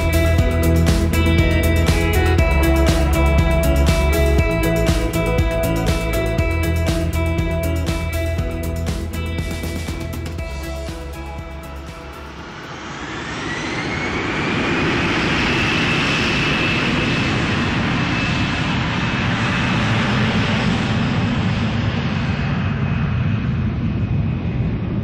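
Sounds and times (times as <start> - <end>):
jet engines spooling up: 0.0 - 25.0.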